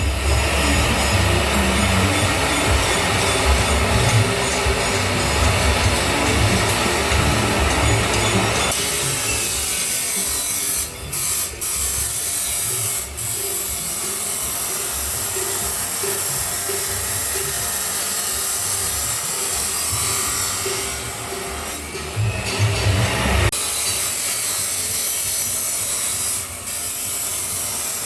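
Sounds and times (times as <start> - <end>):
angle grinder cutting steel pipe: 0.0 - 28.0.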